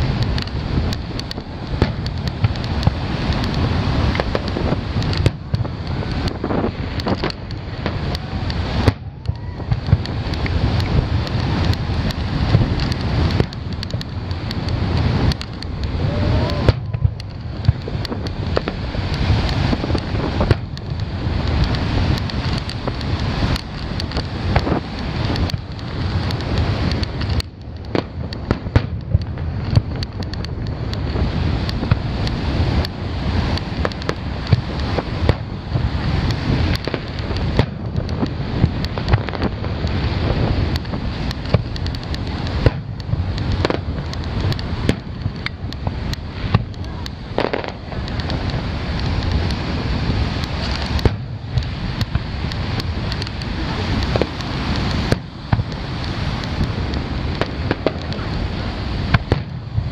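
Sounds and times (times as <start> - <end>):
fireworks booming and crackling: 0.0 - 59.9
low rumble: 0.0 - 59.9
surf: 0.0 - 59.9
wind on microphone: 0.0 - 59.9.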